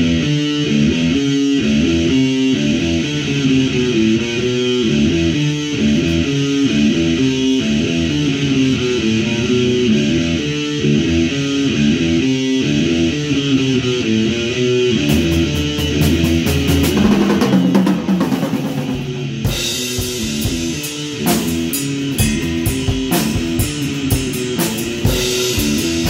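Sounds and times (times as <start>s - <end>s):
electric guitar riff: 0.0s - 26.0s.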